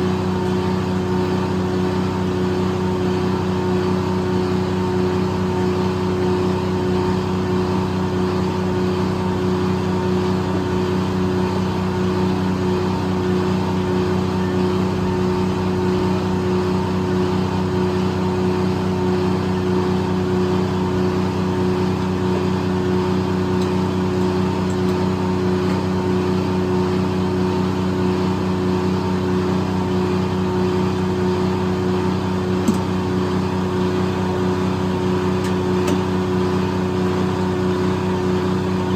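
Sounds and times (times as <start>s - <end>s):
sawmill engine droning: 0.0s - 38.9s.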